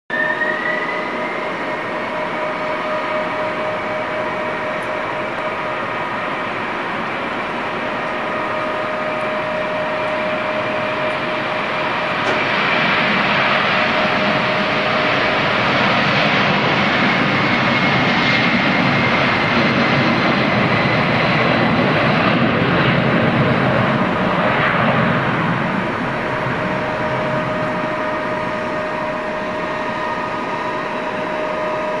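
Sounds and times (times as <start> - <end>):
jet engines roaring at takeoff: 0.1 - 32.0.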